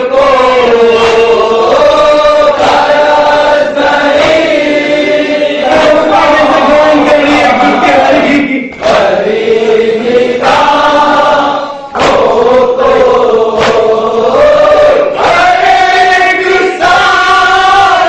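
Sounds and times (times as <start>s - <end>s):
men chanting in unison: 0.0s - 18.0s
sharp rhythmic beat: 0.4s - 18.0s.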